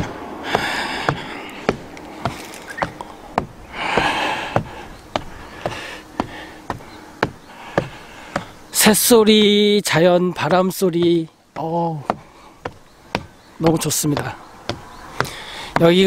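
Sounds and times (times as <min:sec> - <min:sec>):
footsteps on wooden stairs: 0:00.0 - 0:09.8, 0:10.4 - 0:16.0.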